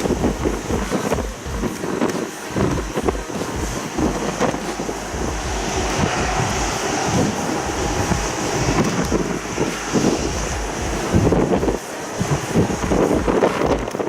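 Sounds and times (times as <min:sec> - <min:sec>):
jet engine roar: 0:00.0 - 0:14.0
wind buffeting microphone: 0:00.0 - 0:14.0.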